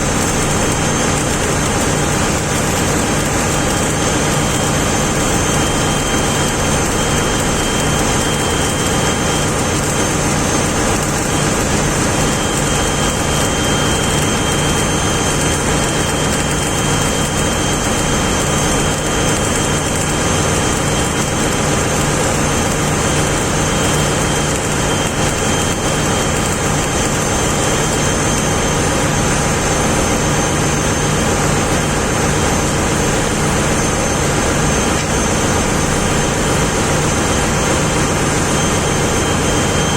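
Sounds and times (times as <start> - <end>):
ship machinery droning: 0.0 - 39.9.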